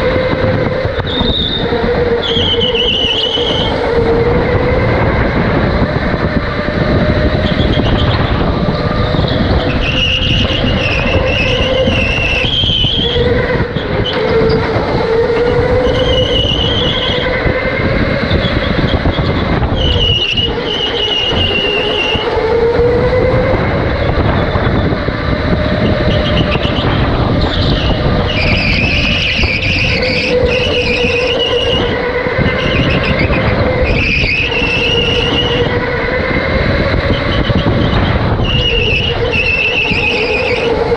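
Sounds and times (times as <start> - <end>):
electric motor whine: 0.0 - 40.9
steady rumble: 0.0 - 40.9
tyres squealing: 0.0 - 40.9.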